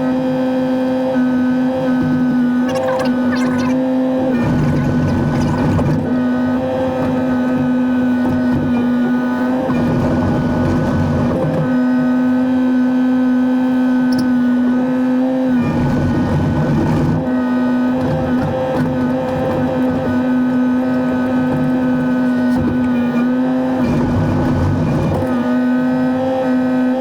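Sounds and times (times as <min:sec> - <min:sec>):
hydraulic whine: 0:01.1 - 0:12.9, 0:13.8 - 0:14.9, 0:15.5 - 0:27.0
diesel digger engine running: 0:01.2 - 0:14.7, 0:15.5 - 0:26.8.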